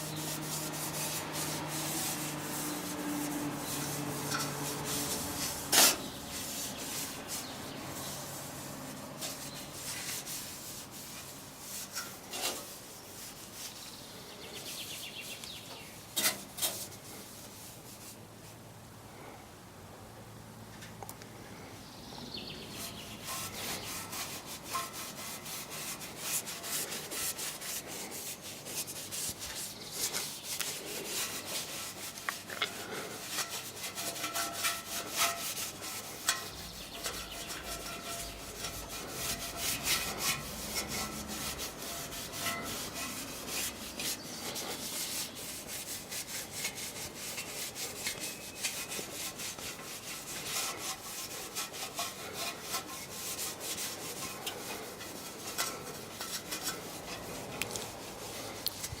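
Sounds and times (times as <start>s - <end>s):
scratchy rubbing on metal: 0.0s - 14.0s, 16.0s - 18.2s, 22.7s - 59.0s.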